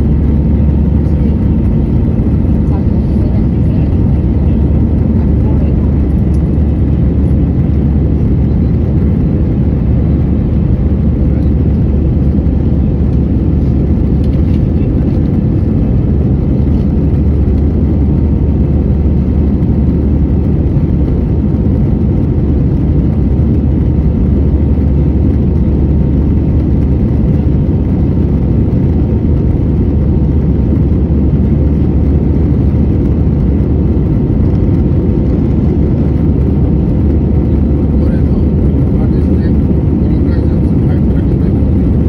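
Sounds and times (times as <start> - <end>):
jet engine cabin drone: 0.0 - 42.0.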